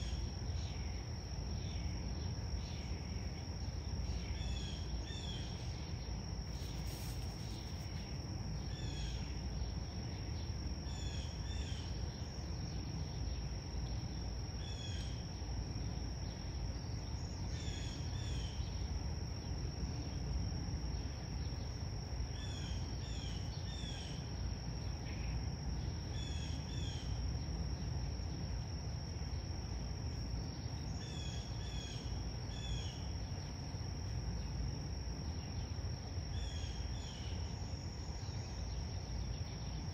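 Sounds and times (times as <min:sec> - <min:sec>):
insects trilling: 0:00.0 - 0:39.9
short insect chirps: 0:00.0 - 0:39.9.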